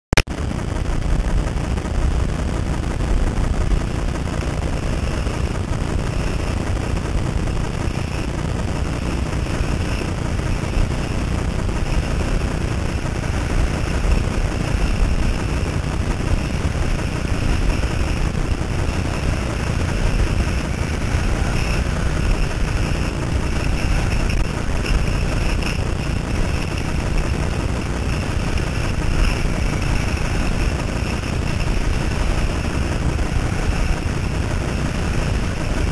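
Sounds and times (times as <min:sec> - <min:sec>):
wind rushing over microphone: 0:00.2 - 0:35.9.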